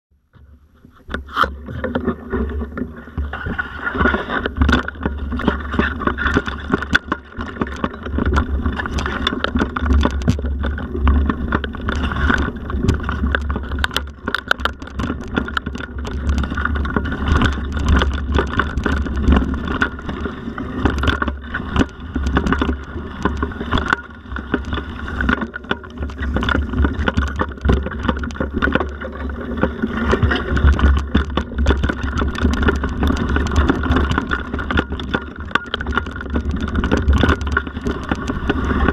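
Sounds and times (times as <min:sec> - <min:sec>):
tyre noise: 0:00.6 - 0:38.9
bike rattling over bumps: 0:01.0 - 0:38.9
wind rumble on microphone: 0:01.5 - 0:38.9.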